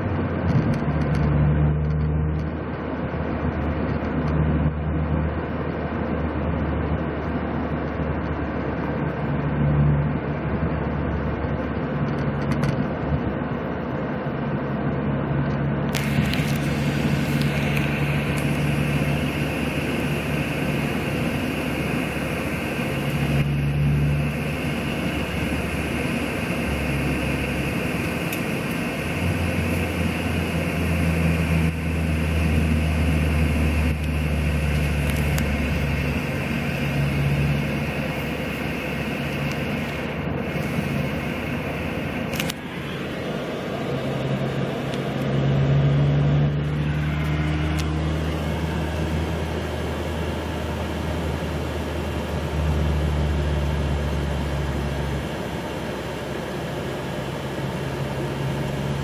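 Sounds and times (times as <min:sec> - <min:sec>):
low drone: 0:00.0 - 0:59.0
road and engine noise inside car: 0:00.0 - 0:59.0.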